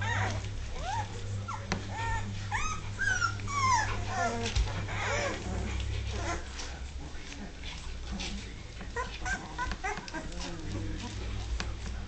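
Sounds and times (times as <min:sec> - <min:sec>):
puppies whimpering and squeaking: 0:00.0 - 0:11.8
steady low hum: 0:00.0 - 0:12.0.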